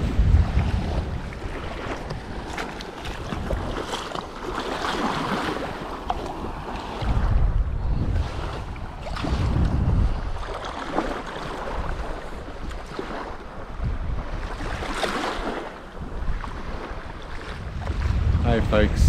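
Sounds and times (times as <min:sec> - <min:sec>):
rushes of water: 0:00.0 - 0:19.0
water lapping at shoreline: 0:00.0 - 0:19.0
wind on microphone: 0:00.0 - 0:19.0.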